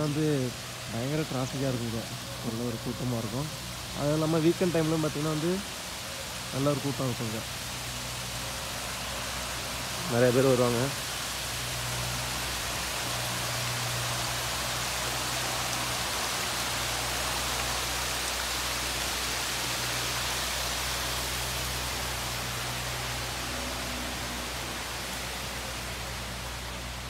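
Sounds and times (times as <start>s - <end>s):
fountain water splashing: 0.0s - 27.0s.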